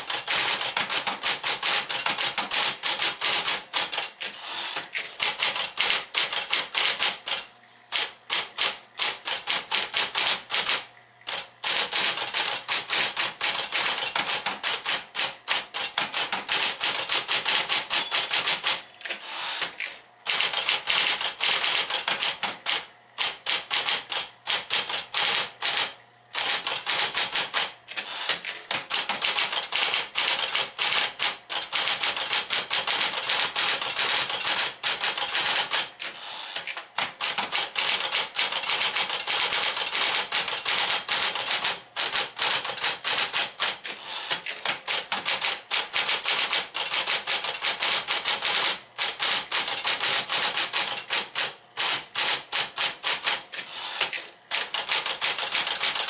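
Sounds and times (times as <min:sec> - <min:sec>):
electric typewriter typing: 0:00.0 - 0:56.0.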